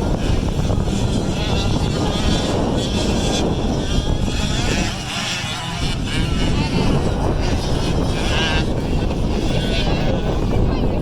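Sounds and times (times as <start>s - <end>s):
motocross bike engines buzzing: 0.0s - 11.0s.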